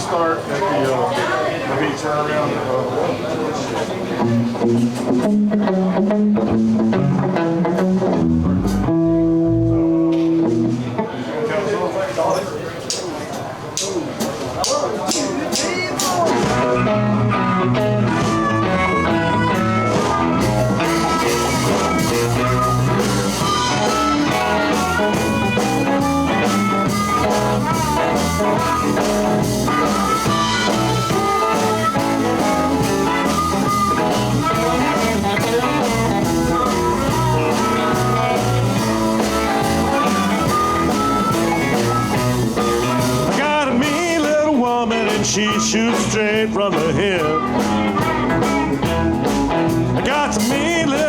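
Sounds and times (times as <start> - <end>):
blues band playing: 3.5 - 11.8, 12.7 - 51.0
electric guitar: 4.1 - 11.3, 16.0 - 51.0
drum kit: 4.2 - 11.0, 13.8 - 51.0.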